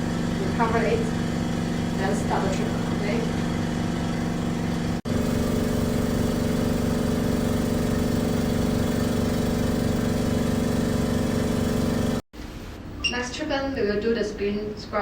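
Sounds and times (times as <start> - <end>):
spray mist gun motor hum: 0.0 - 12.2.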